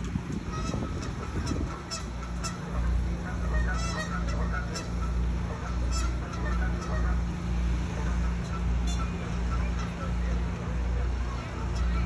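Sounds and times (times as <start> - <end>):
low pulsing rumble: 0.0 - 12.0
birds calling: 0.5 - 12.0.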